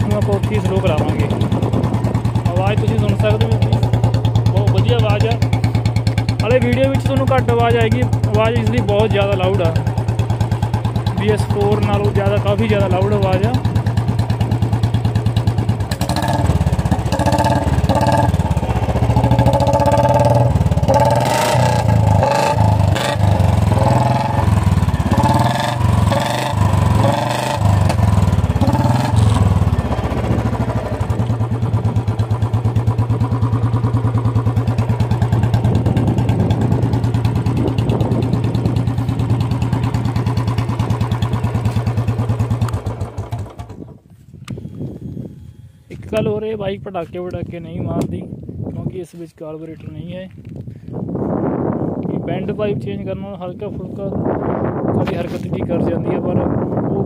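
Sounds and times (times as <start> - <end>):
motorcycle engine revving and idling: 0.0 - 57.0.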